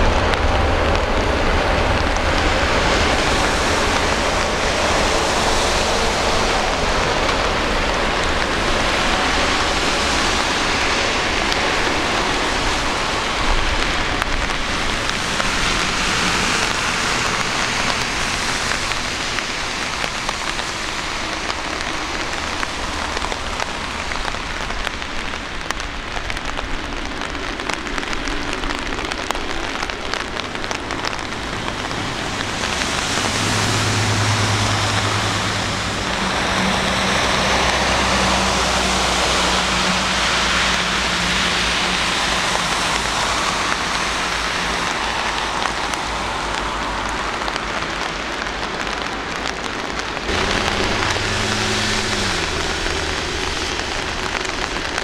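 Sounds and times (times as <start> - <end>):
jet engines at takeoff: 0.0 - 55.0
rain falling: 0.0 - 55.0
raindrop clicks near microphone: 0.2 - 55.0.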